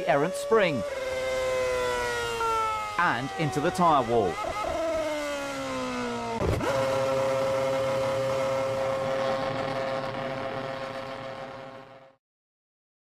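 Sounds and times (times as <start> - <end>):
racing car engine high pitch: 0.0 - 12.2.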